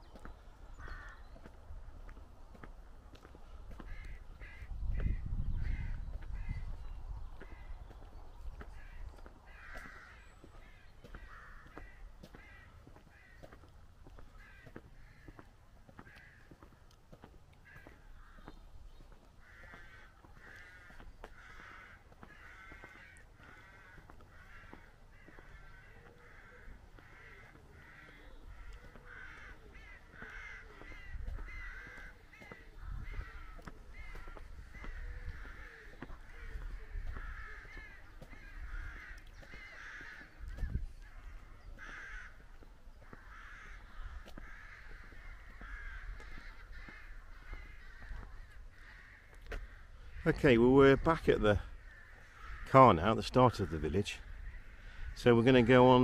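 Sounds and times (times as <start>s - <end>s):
rooks cawing: 0.7s - 1.5s, 3.7s - 56.0s.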